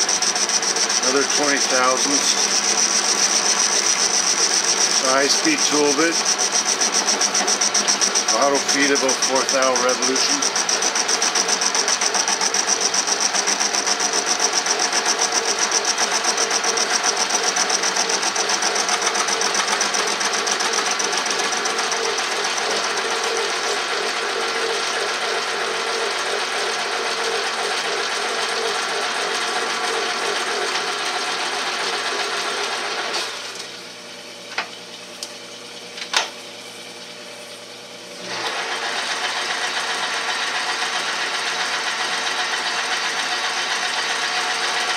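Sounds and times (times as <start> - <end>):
metal lathe running: 0.0 - 34.8, 38.1 - 44.9.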